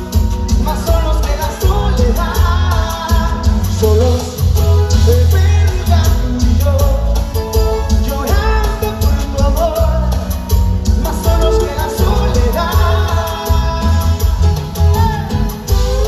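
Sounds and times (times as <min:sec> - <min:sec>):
heavy bass and drum beat: 0:00.0 - 0:16.0
live band music: 0:00.0 - 0:16.0
man singing: 0:00.0 - 0:16.0.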